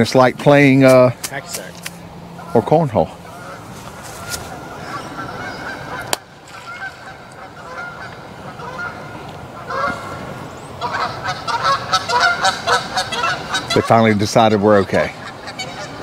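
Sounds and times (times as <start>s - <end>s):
geese honking: 2.2s - 16.0s.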